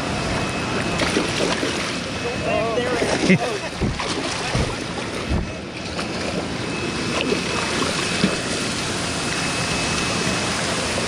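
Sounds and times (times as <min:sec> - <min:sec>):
creek water churning and splashing: 0:00.0 - 0:11.0.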